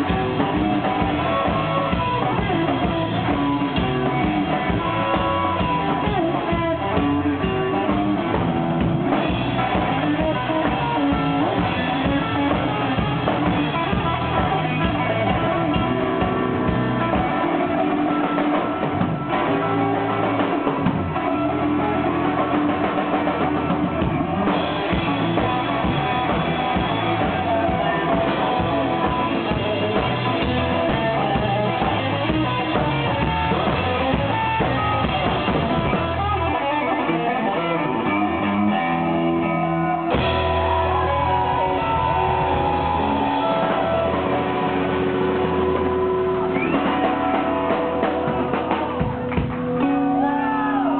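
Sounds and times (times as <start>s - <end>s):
drum kit: 0.0s - 50.9s
electric guitar: 0.0s - 50.9s.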